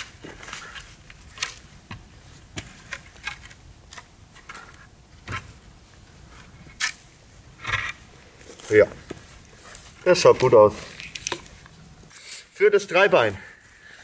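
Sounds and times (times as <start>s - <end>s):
branches rustling: 0.0s - 14.0s.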